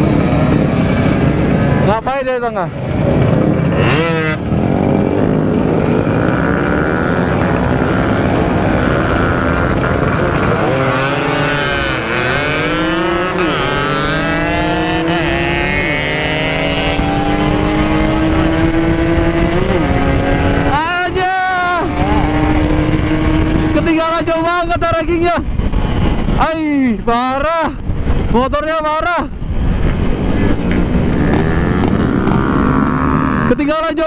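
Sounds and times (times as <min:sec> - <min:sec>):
motorcycle engine accelerating: 0:00.0 - 0:24.4, 0:29.4 - 0:33.6.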